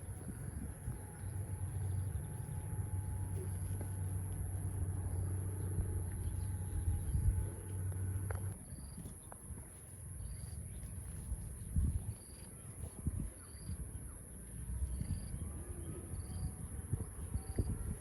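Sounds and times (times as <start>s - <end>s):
insects droning: 0.0s - 18.0s
low hum: 0.0s - 18.0s.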